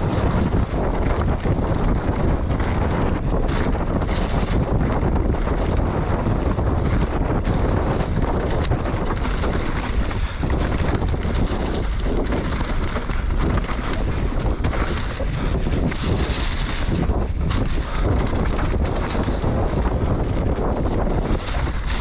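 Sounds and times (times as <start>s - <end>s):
bike rattling and knocking: 0.0s - 22.0s
tyre noise on dirt trail: 0.0s - 22.0s
wind rushing over microphone: 0.0s - 22.0s.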